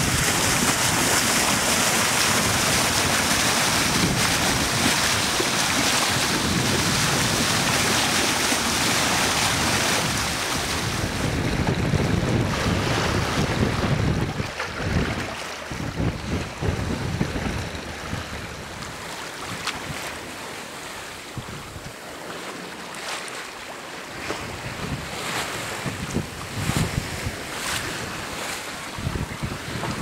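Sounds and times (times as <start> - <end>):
wind buffeting microphone: 0.0 - 20.4, 21.2 - 22.0, 24.2 - 30.0
bow splashing into waves: 0.0 - 30.0
water rushing along hull: 0.0 - 30.0.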